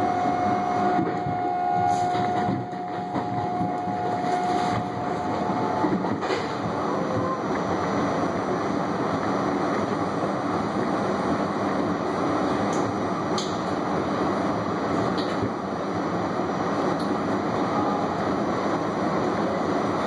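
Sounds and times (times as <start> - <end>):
subway train wheels rumbling on rail: 0.0 - 20.0.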